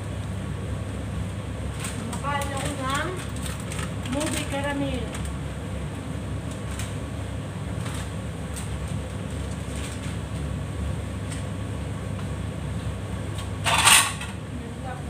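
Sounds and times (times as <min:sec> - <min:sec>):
extractor hood fan humming: 0:00.0 - 0:15.0.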